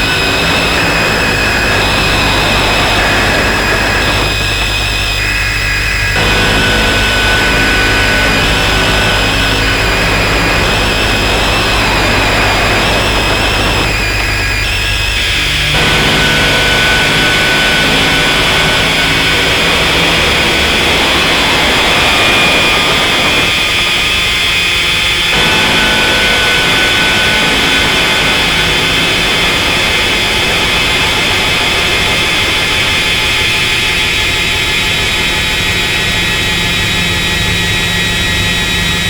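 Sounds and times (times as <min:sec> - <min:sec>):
harsh noise drone: 0:00.0 - 0:39.0
high whining tones: 0:00.0 - 0:39.0
low rumbling noise: 0:00.0 - 0:39.0.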